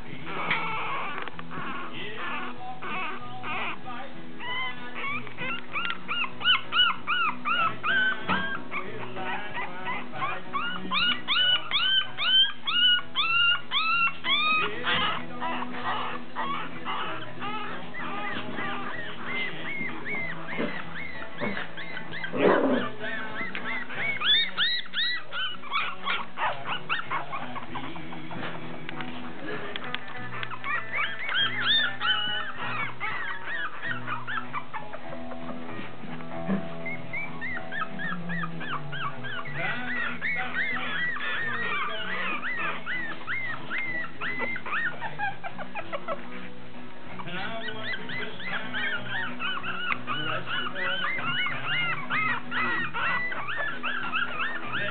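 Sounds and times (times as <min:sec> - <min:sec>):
background music: 0:00.0 - 0:54.9
puppies whining and yelping: 0:00.0 - 0:54.9.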